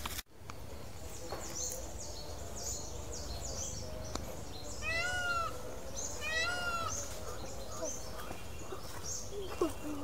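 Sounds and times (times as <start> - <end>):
forest background noise: 0.0 - 10.0
bird chirping: 0.5 - 10.0.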